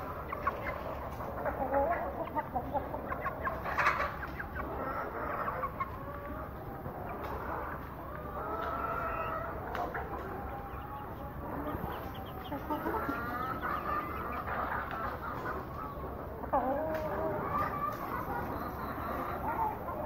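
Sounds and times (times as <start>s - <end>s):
chicken squawk: 0.0s - 20.0s
chickens clucking: 0.0s - 20.0s.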